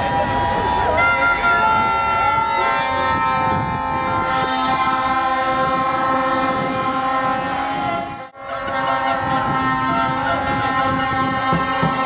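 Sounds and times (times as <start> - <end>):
plastic fan horns blaring: 0.0 - 12.0.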